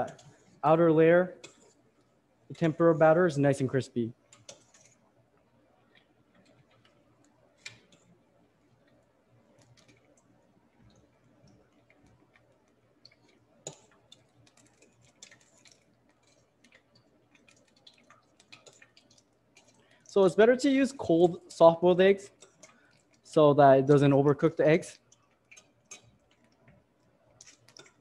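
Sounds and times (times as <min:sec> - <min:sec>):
batter deep-frying in hot oil: 0:00.0 - 0:28.0.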